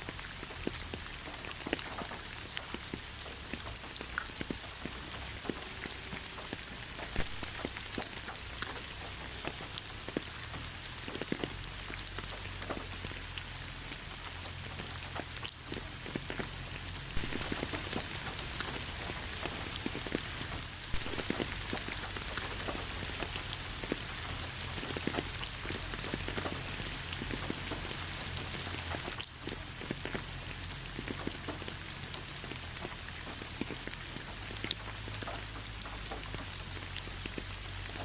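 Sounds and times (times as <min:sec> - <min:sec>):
low steady rumble: 0:00.0 - 0:38.0
rain drops tapping: 0:00.0 - 0:38.0.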